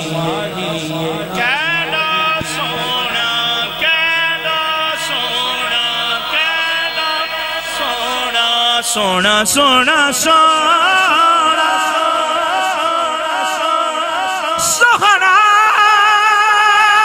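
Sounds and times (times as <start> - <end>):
men singing melismatic phrases: 0.0 - 15.4.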